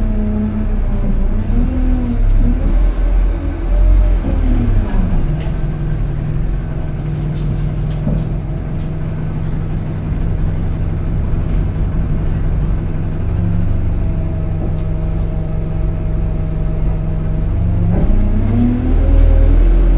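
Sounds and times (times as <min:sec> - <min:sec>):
bus engine idling: 0:00.0 - 0:19.9.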